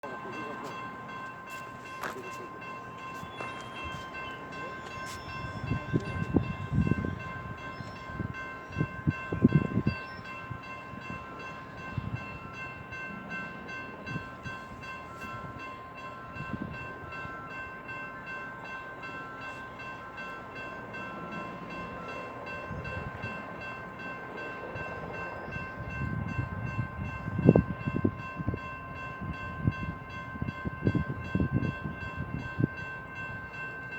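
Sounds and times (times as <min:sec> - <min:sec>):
level crossing bells ringing: 0:00.0 - 0:33.9.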